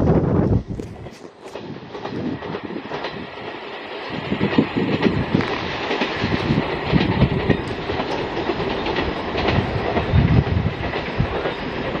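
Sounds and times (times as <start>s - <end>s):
train wheels clattering over rail joints: 0.7s - 12.0s.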